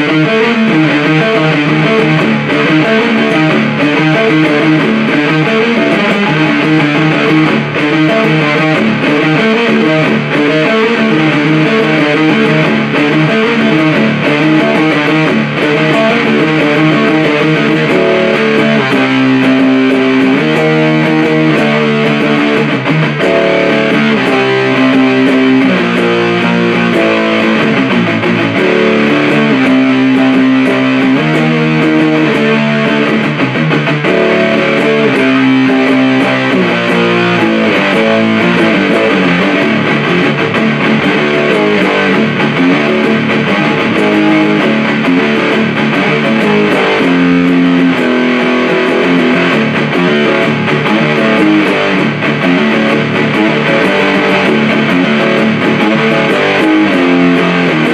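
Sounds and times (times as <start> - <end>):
distorted electric guitar riffing: 0.0 - 57.9.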